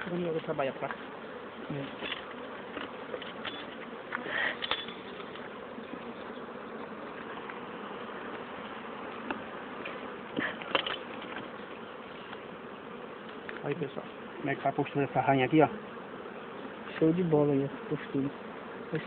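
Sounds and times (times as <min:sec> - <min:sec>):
bees buzzing in a swarm: 0:00.0 - 0:19.0.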